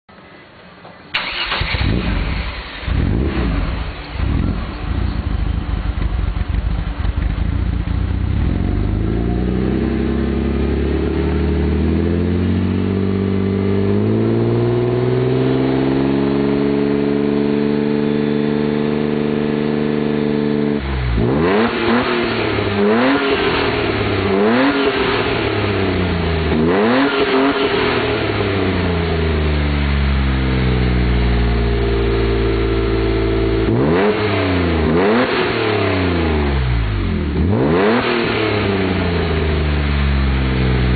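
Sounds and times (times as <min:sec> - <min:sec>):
car engine revving: 0:01.2 - 0:40.9.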